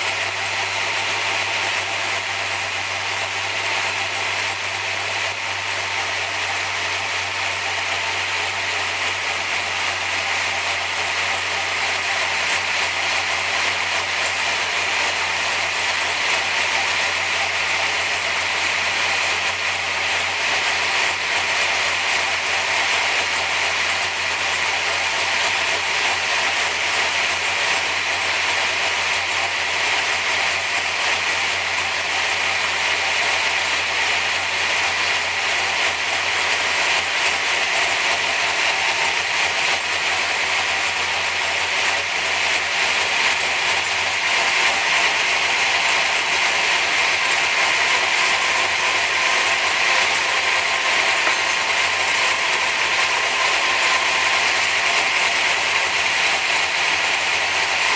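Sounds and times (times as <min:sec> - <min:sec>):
engine idling with mechanical clatter: 0:00.0 - 0:57.9.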